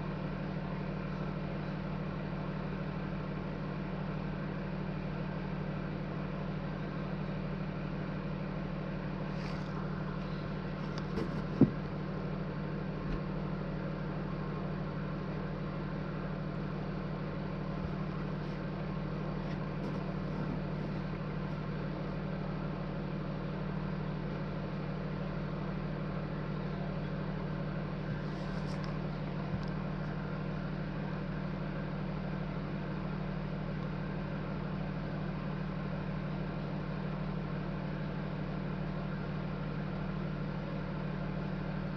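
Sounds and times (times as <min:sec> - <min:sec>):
vehicle engine idling: 0:00.0 - 0:41.9.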